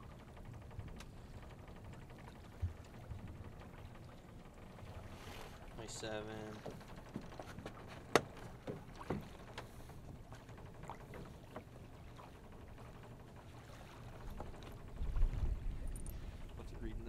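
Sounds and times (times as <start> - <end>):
wind and water against hull: 0.0 - 17.0.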